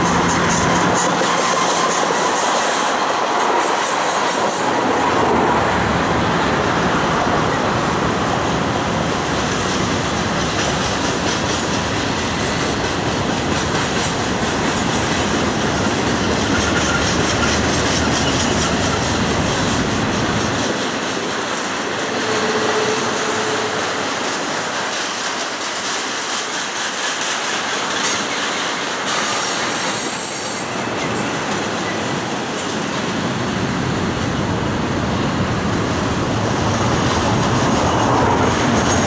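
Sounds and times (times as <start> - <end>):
wheels clacking over rail joints: 0.0 - 34.6, 35.5 - 39.0
freight train rumbling past: 0.0 - 39.0.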